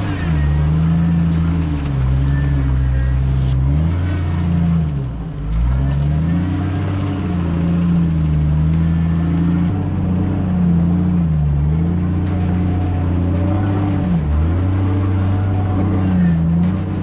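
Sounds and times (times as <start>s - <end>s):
off-road vehicle engine under load: 0.0s - 17.0s.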